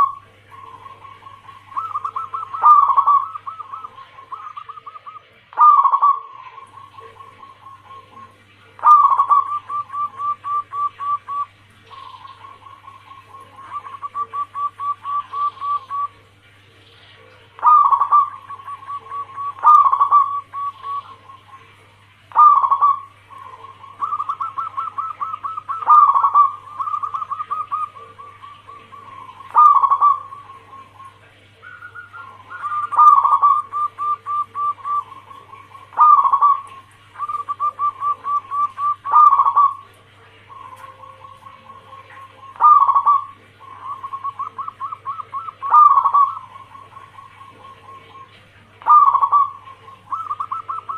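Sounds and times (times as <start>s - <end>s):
dove cooing: 0.0s - 50.9s
faint low hum: 0.0s - 50.9s.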